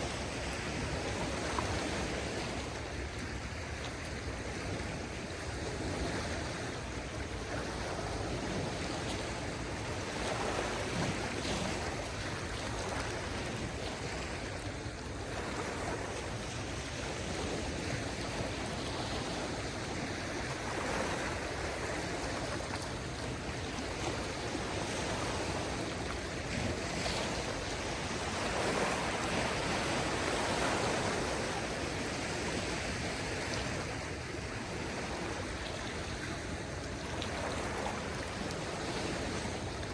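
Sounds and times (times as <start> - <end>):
small waves washing ashore: 0.0 - 39.9.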